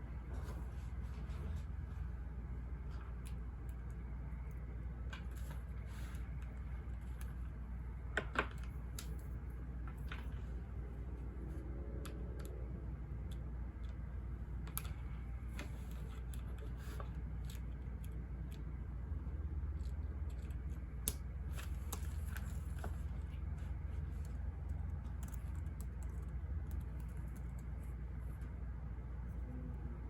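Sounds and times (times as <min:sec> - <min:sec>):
low white-noise hum: 0:00.0 - 0:30.0.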